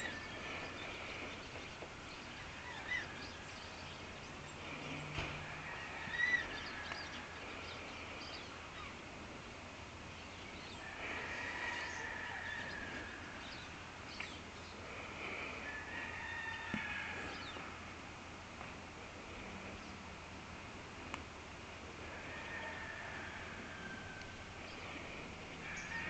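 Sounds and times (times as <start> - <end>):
distant bird calls: 0.0 - 18.0, 18.6 - 26.0.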